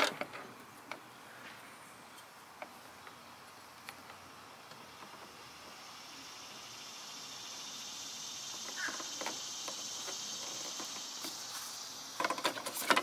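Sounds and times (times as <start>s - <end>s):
high insect drone: 1.1s - 13.0s.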